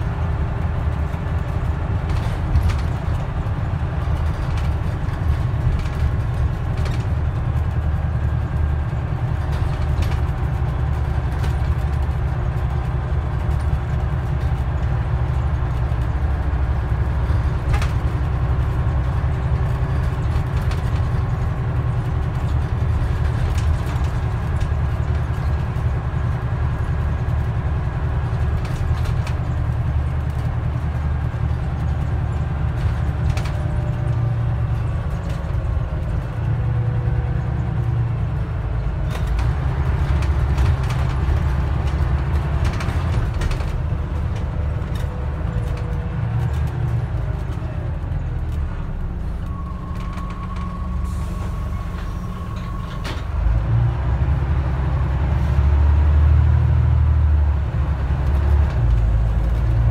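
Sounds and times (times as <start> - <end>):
body rattles and knocks: 0.0 - 38.4, 39.0 - 48.8
bus diesel engine drone: 0.0 - 59.9.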